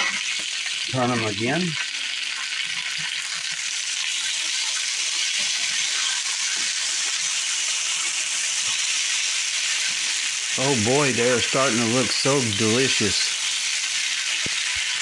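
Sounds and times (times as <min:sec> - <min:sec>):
potatoes sizzling in oil: 0:00.0 - 0:15.0
spatula turning food in pan: 0:00.0 - 0:15.0.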